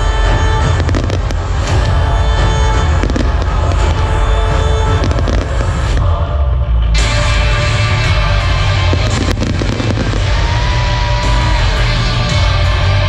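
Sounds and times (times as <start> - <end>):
fireworks bangs and crackles: 0.0 - 13.0
loud show music with heavy bass: 0.0 - 13.0.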